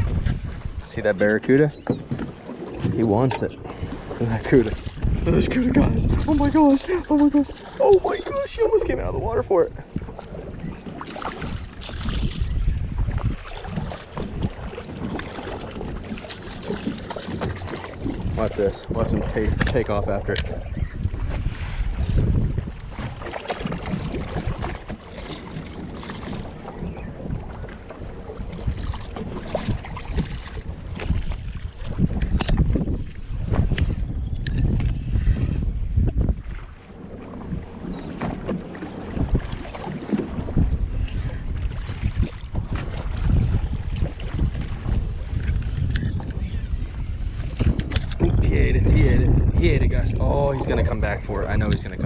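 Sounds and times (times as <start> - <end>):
water lapping against boat hull: 0.0 - 52.0
wind buffeting microphone: 0.0 - 52.0.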